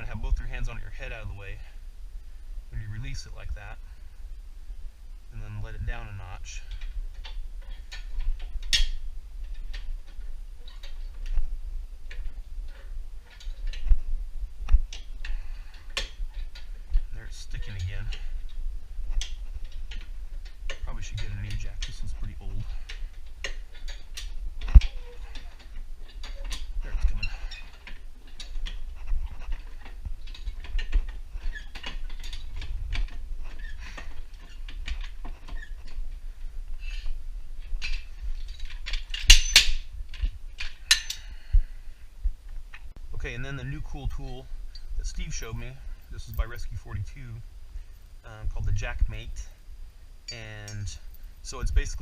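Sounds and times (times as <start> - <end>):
low steady rumble: 0.0 - 52.0.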